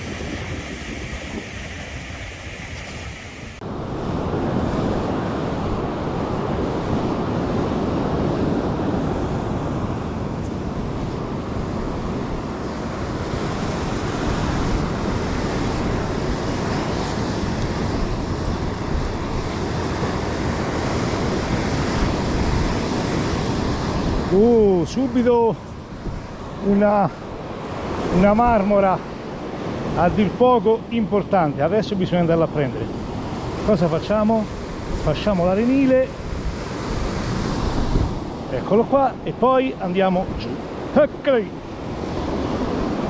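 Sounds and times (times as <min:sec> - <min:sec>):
wind on microphone: 0:00.0 - 0:30.5, 0:31.4 - 0:40.9, 0:41.5 - 0:43.0
surf breaking on beach: 0:00.0 - 0:43.0.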